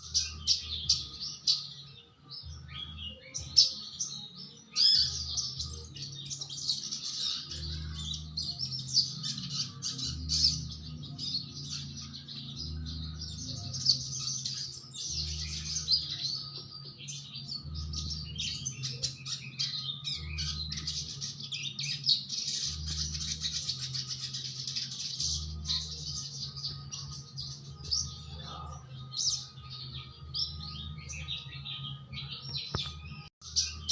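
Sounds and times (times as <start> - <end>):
bird singing high chirps: 0.0 - 33.9.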